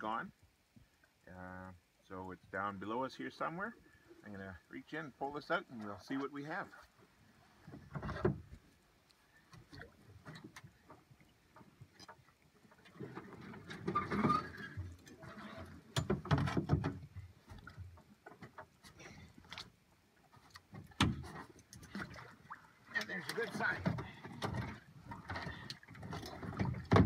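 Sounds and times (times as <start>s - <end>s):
water splashing and sloshing: 0.0s - 27.0s.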